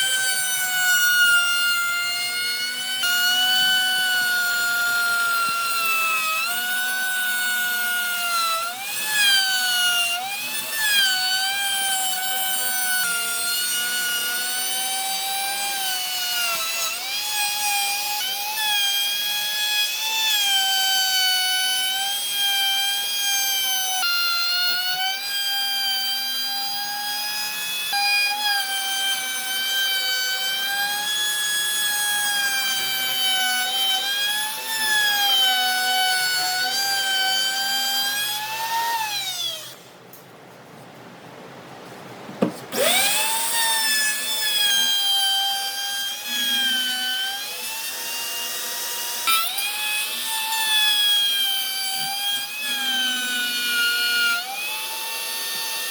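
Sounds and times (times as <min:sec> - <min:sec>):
power tool motor whining: 0:00.0 - 0:39.9, 0:42.4 - 0:55.9.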